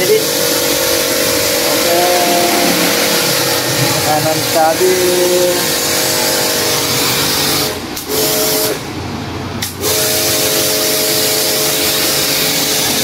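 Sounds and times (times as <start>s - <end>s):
pressure washer jet hissing: 0.0s - 8.8s, 9.8s - 13.0s
electric motor and pump hum: 0.0s - 13.0s.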